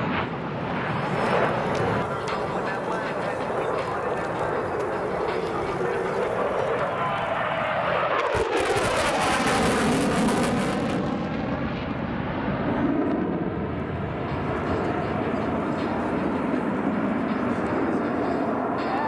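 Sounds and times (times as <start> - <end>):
jet engine passing crackling: 0.0 - 19.0.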